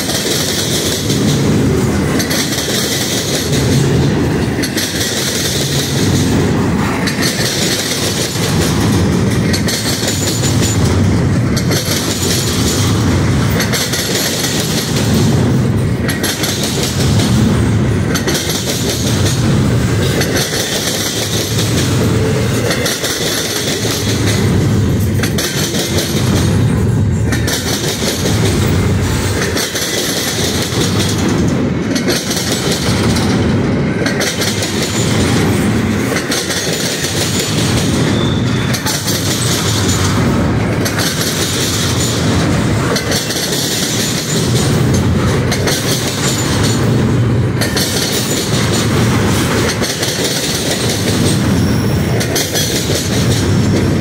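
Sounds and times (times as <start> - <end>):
freight cars rumbling on rails: 0.0 - 54.0.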